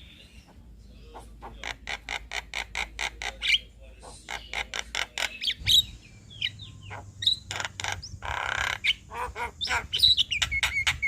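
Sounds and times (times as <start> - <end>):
starling chattering: 1.0 - 11.0
harsh grating bird call: 1.1 - 11.0.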